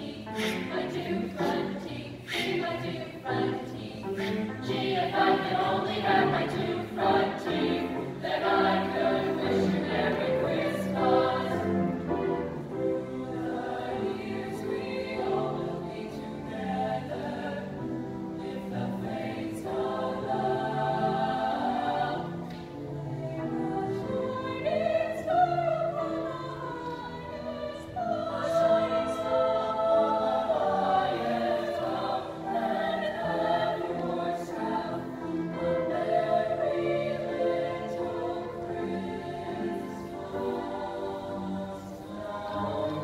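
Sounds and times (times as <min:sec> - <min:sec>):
choir singing in harmony: 0:00.0 - 0:43.0.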